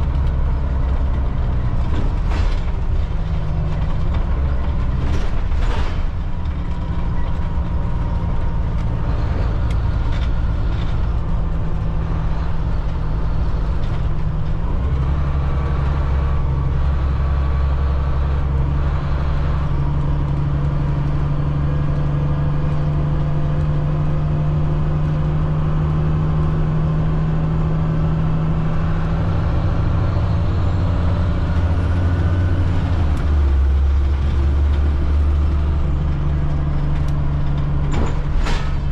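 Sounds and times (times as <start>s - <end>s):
bus diesel engine humming: 0.0s - 38.9s.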